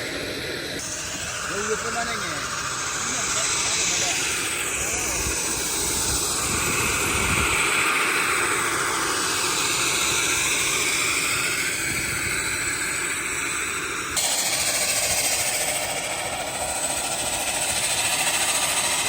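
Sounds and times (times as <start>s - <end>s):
aircraft engines running: 0.0s - 19.0s.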